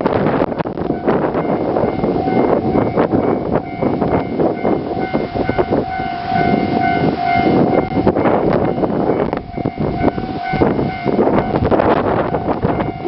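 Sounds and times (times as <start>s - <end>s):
thin steady whine: 0.0s - 13.0s
train wheels rumbling on rail: 0.0s - 13.0s.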